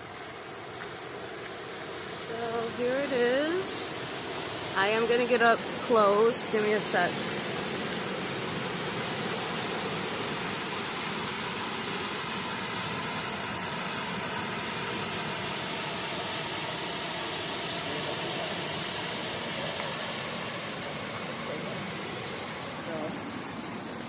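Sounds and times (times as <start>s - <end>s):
waterfall rushing: 1.3s - 24.0s.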